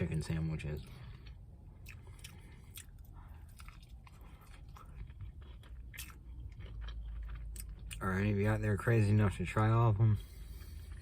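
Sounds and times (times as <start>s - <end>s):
crunching of fried coating: 0.0s - 11.0s
close-up chewing: 0.6s - 8.7s, 10.2s - 11.0s.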